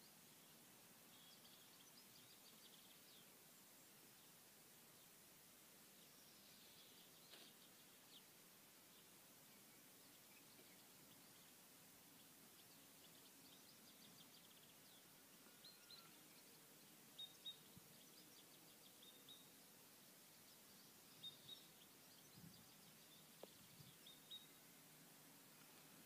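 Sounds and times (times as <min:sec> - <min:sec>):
faint birdsong chirps and trills: 0:00.0 - 0:26.0
low steady hiss: 0:00.0 - 0:26.0.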